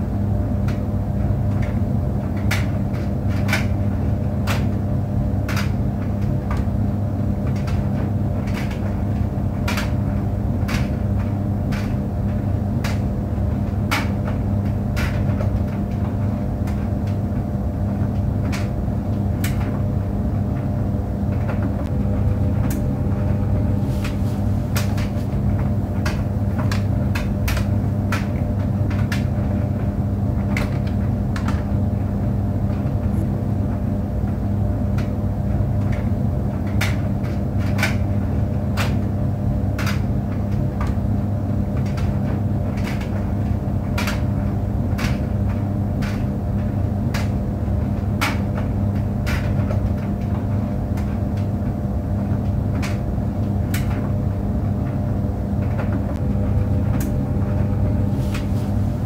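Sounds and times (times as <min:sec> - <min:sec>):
tumble dryer humming: 0:00.0 - 0:59.0.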